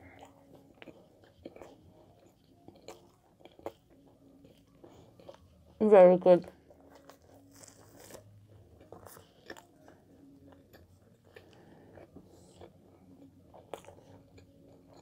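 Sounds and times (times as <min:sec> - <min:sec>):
mouth chewing sounds: 0:00.0 - 0:05.8, 0:06.4 - 0:15.0.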